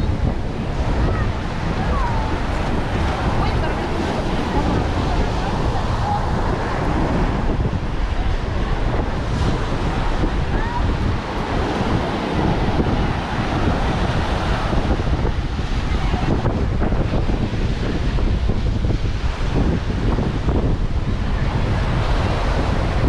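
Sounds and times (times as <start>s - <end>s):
faint voices: 0.0s - 19.5s
ocean surf: 0.0s - 23.0s
wind buffeting microphone: 0.0s - 23.0s.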